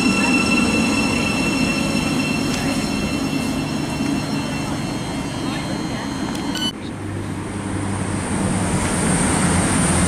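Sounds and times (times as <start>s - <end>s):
train rumble: 0.0s - 10.0s
train whine on rails: 0.0s - 10.0s.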